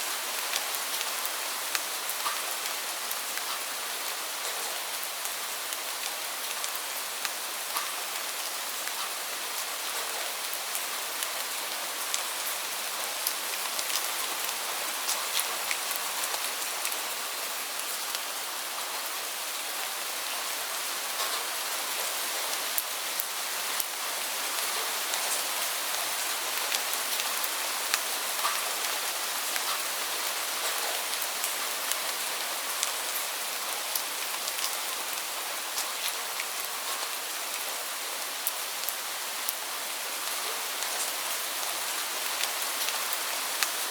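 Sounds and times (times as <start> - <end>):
heavy rain falling: 0.0 - 43.9
raindrops ticking on a surface: 0.1 - 43.9.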